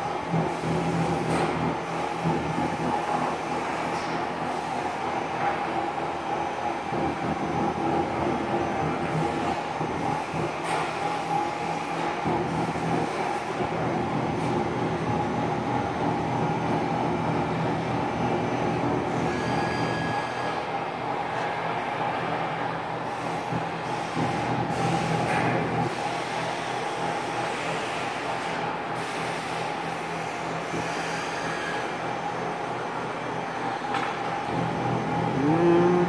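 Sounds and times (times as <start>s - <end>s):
factory machinery humming: 0.0s - 36.0s.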